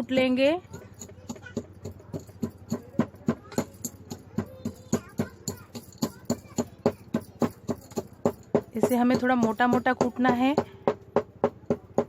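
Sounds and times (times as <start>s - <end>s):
pestle pounding spices in mortar: 0.0s - 12.0s.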